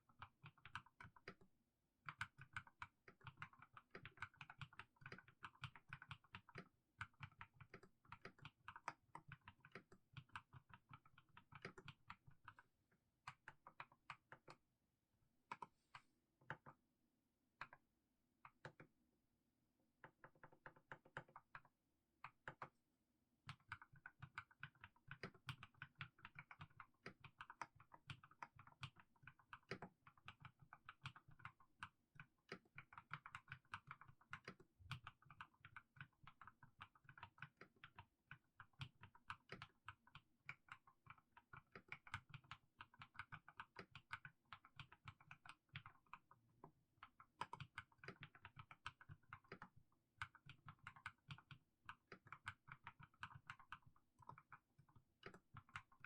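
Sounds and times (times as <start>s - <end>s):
typing on mechanical keyboard: 0.1s - 1.5s, 2.1s - 12.6s, 20.0s - 22.7s, 23.5s - 56.0s.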